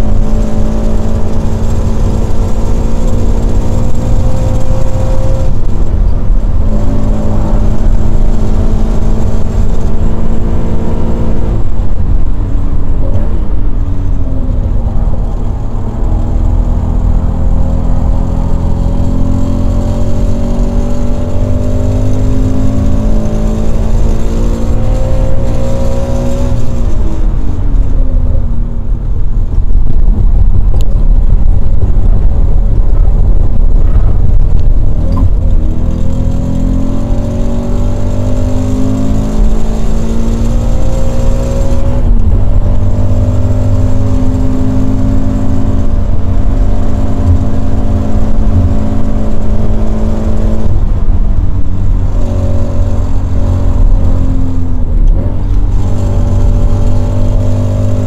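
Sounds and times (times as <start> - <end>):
car engine revving: 0.0 - 58.0
road and wind noise: 0.0 - 58.0.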